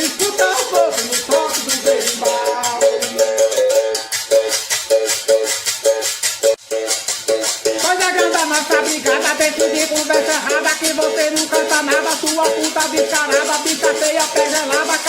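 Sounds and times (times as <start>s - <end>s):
berimbau plucked notes: 0.0s - 15.0s
rattle shaking: 0.0s - 15.0s.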